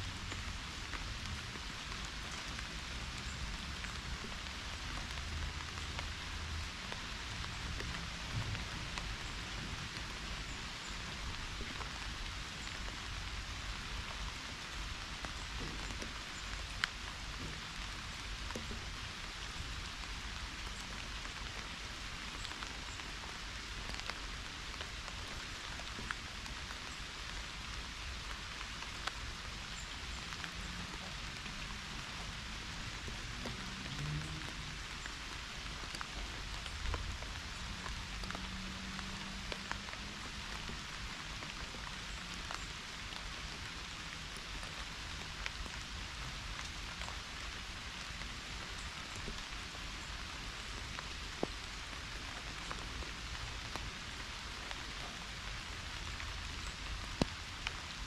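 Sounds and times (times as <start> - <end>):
close raindrop ticks: 0.0 - 58.0
pouring rain hiss: 0.0 - 58.0.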